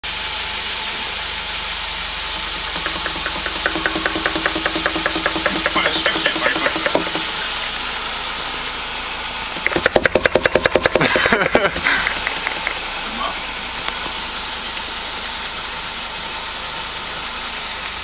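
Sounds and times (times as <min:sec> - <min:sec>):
subwoofer pulsing chuff and rattle: 0:00.9 - 0:18.0.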